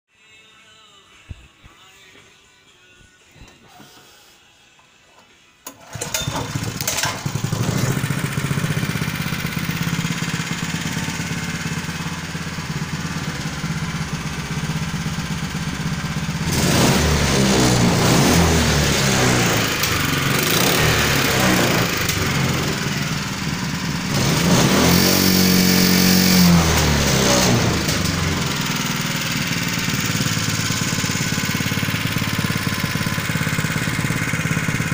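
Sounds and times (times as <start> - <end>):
small engine starting and revving: 5.7 - 34.9.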